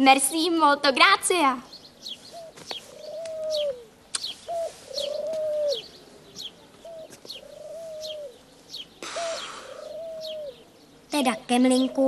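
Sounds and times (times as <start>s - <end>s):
small birds chirping: 0.1s - 12.0s
dove cooing: 2.0s - 12.0s.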